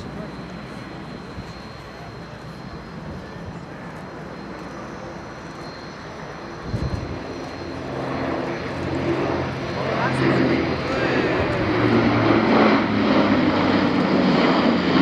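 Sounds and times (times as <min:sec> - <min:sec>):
steady propeller hum: 0:00.0 - 0:15.0
turboprop engines droning: 0:00.0 - 0:15.0.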